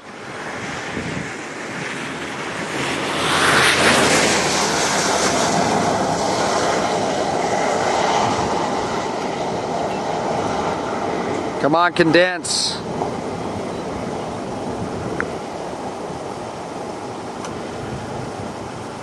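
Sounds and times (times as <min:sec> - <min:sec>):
rushing wind: 0:00.0 - 0:19.0
vehicle road noise: 0:00.0 - 0:19.0.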